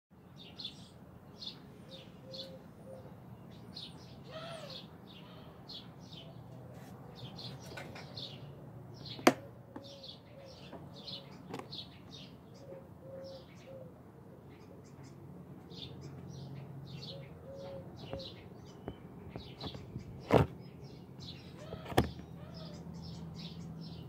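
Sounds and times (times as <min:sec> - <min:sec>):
small birds chirping: 0:00.2 - 0:24.0.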